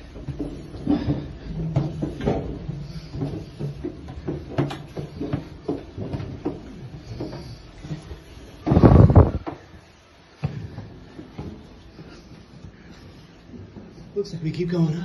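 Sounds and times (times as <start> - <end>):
footsteps on wooden stairs: 0.0 - 14.2.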